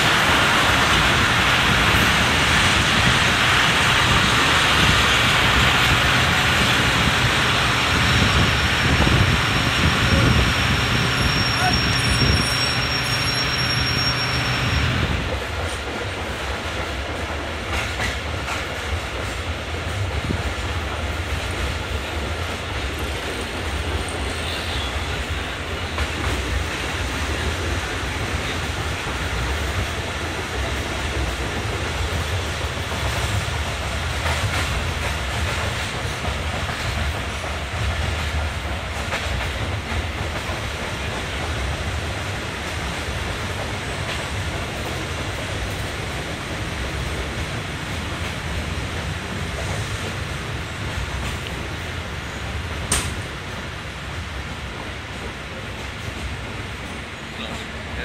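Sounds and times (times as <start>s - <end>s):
clickety-clack of wheels: 0.0s - 58.0s
train rumbling: 0.0s - 58.0s.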